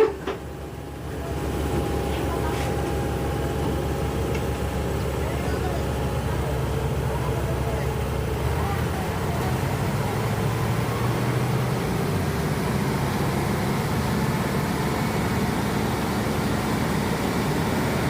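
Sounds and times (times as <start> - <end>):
heavy vehicle engine humming: 0.0 - 18.0.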